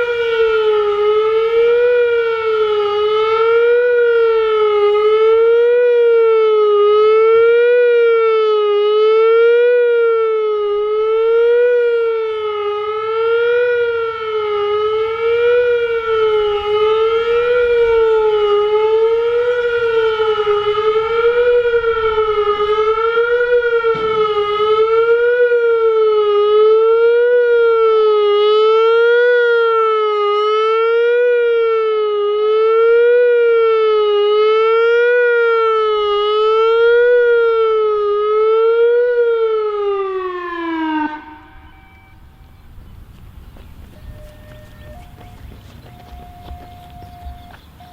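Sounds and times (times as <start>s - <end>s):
warning siren fast wail: 0.0s - 47.9s.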